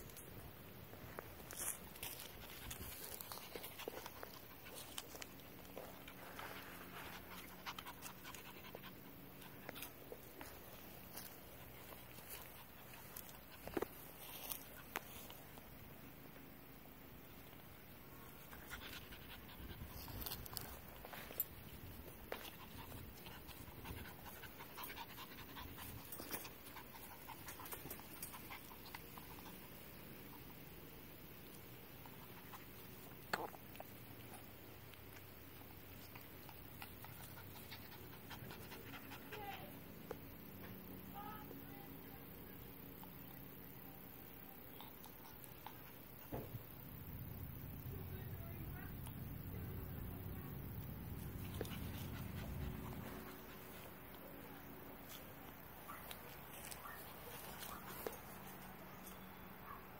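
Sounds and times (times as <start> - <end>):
rustles of movement in grass: 0.0 - 40.6, 42.8 - 59.9
puppy panting: 2.6 - 15.0, 18.3 - 30.7, 31.8 - 40.8, 44.4 - 47.9, 49.0 - 59.8.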